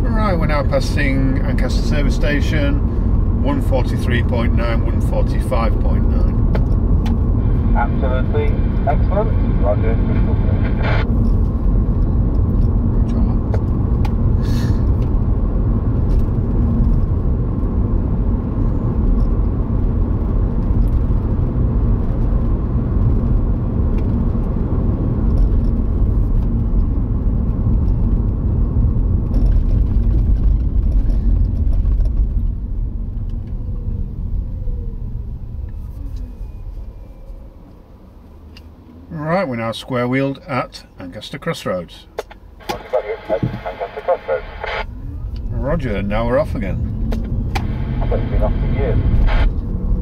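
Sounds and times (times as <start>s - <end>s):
car road noise rumble: 0.0s - 50.0s.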